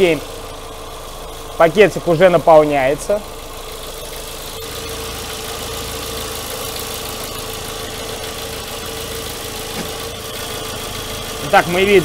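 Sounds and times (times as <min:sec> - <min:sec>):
petrol engine idling: 0:00.0 - 0:12.0
steady engine whine: 0:00.0 - 0:12.0.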